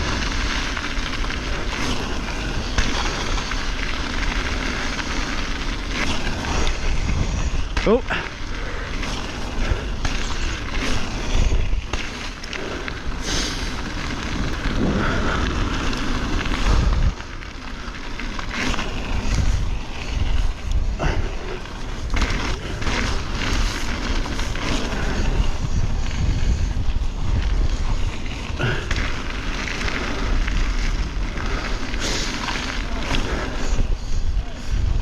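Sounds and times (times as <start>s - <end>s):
bike knocking and rattling: 0.0s - 35.0s
wind rumble on microphone: 0.0s - 35.0s.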